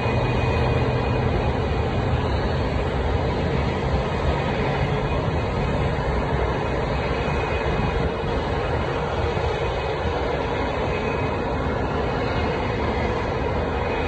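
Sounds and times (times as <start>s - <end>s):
aircraft engines rumbling: 0.0s - 14.0s
tow tractor engine: 0.0s - 14.0s.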